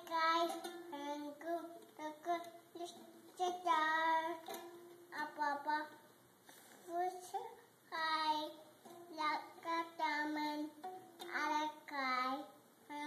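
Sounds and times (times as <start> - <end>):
child singing: 0.0 - 6.0, 6.8 - 13.0.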